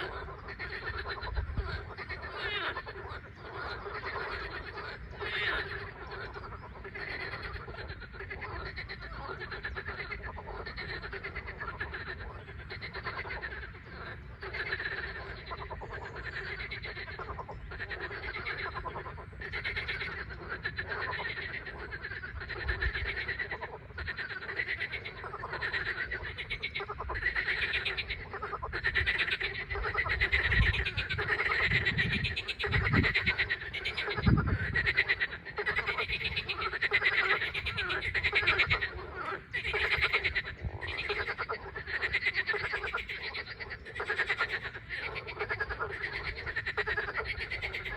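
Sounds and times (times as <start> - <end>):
frogs croaking: 0.0 - 47.9.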